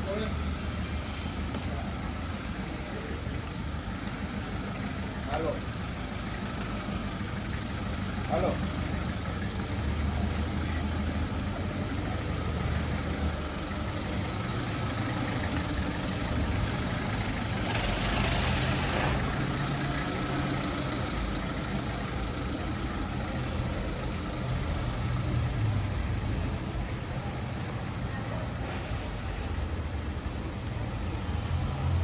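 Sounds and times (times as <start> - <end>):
large vehicle engine running: 0.0 - 32.0
street traffic: 0.0 - 32.0.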